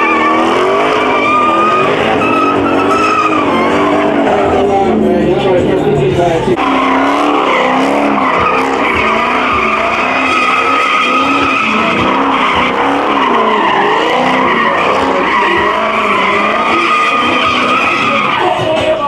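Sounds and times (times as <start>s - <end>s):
car engine revving: 0.0s - 19.0s
tires squealing: 0.0s - 19.0s.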